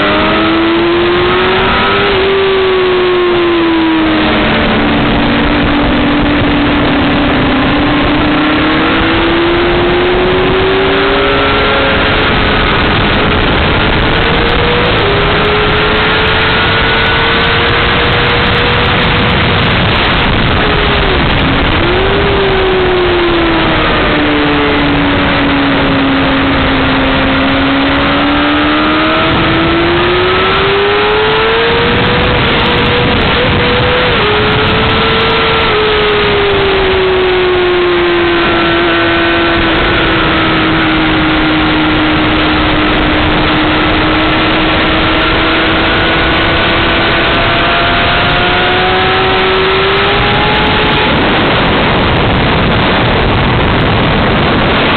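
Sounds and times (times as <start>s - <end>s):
motorcycle engine accelerating: 0.0s - 54.9s
wind rush on microphone: 0.0s - 54.9s.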